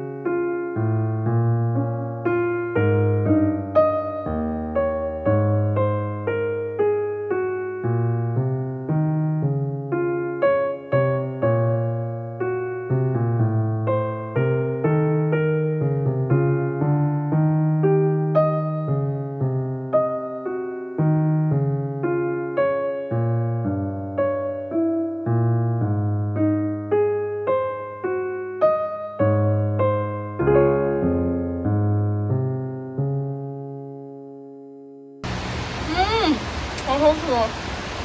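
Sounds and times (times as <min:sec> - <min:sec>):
piano music: 0:00.0 - 0:36.4.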